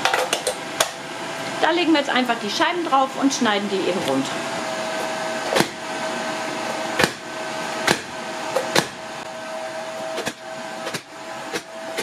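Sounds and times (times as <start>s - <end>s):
cooker fan hum: 0.0s - 12.0s.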